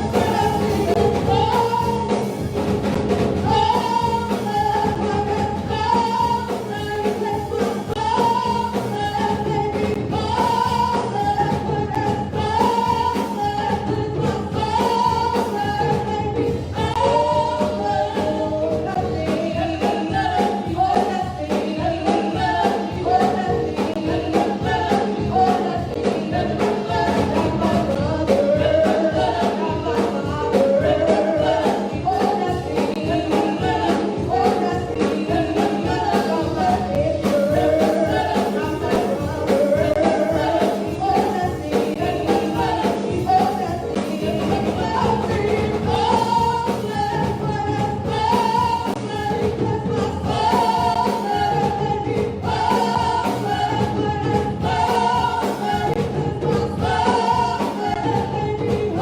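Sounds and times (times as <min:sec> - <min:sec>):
gospel singing over a band: 0:00.0 - 0:59.0.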